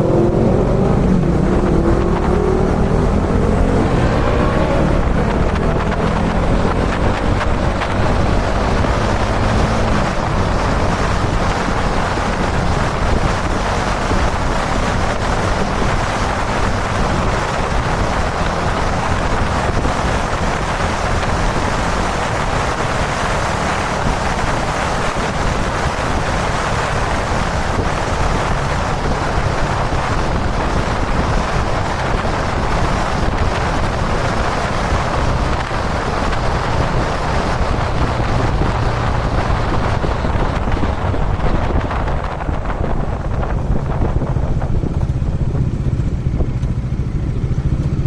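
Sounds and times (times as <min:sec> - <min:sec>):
motorcycle engine running: 0:00.0 - 0:48.0
wind rushing over microphone: 0:00.0 - 0:48.0.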